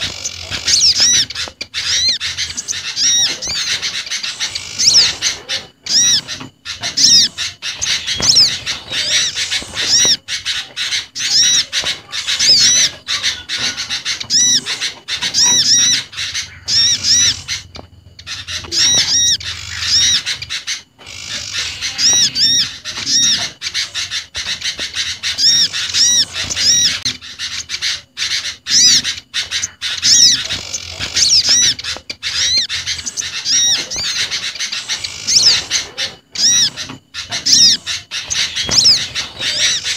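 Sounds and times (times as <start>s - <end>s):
small birds chirping and whistling: 0.0s - 39.9s.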